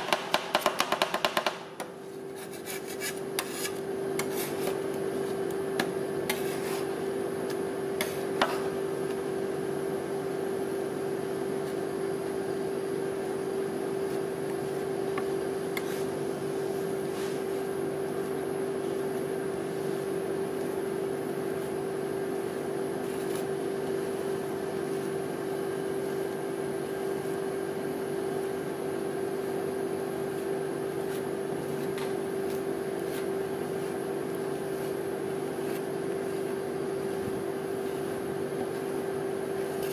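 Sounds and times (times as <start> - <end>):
refrigeration unit humming: 0.0 - 39.9.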